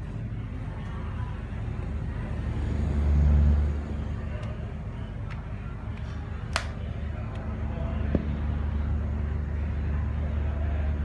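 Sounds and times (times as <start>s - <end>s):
exhaust fan humming: 0.0s - 11.0s.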